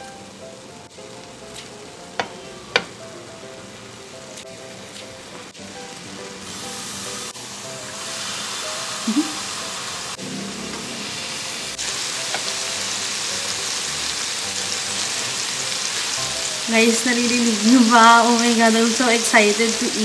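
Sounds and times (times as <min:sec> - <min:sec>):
meat sizzling on grill: 0:00.0 - 0:20.0.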